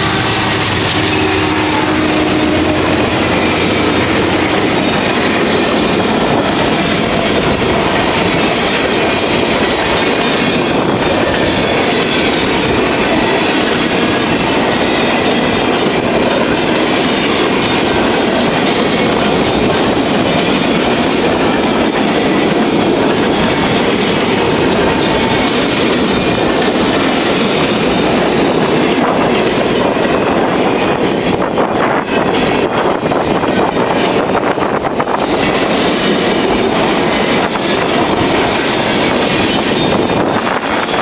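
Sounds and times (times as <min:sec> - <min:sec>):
train cars rumbling past: 0:00.0 - 0:41.0.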